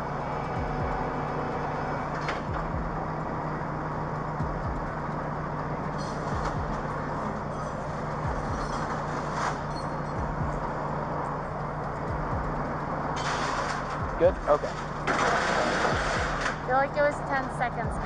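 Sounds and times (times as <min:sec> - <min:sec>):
cars passing on road: 0:00.0 - 0:18.0
low steady hum: 0:00.0 - 0:18.0.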